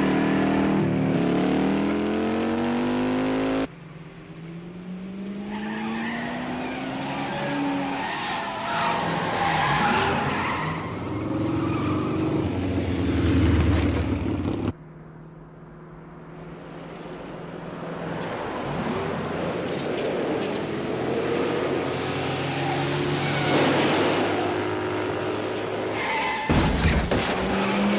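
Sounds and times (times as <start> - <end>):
car engines revving: 0.0 - 26.2.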